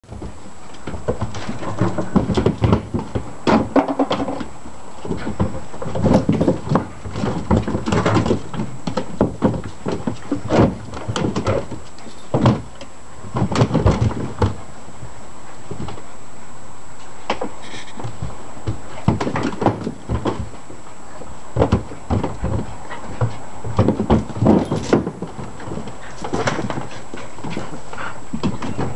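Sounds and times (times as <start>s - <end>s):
paws scraping on plastic: 0.1s - 16.1s, 17.0s - 28.9s.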